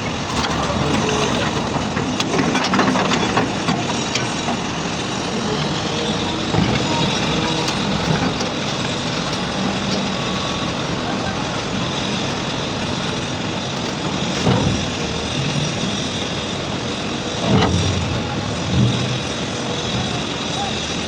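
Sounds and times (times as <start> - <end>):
heavy diesel engines working: 0.0 - 21.0.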